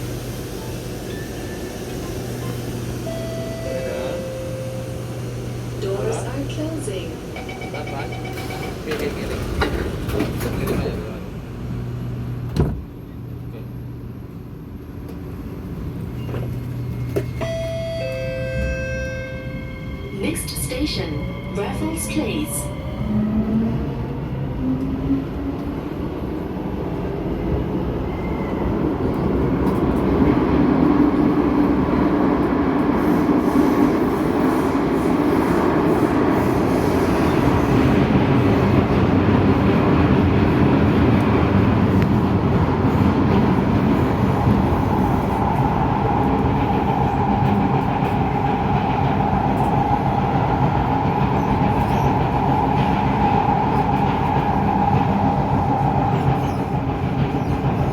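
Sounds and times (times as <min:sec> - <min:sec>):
metro train running in tunnel: 0:00.0 - 0:57.9.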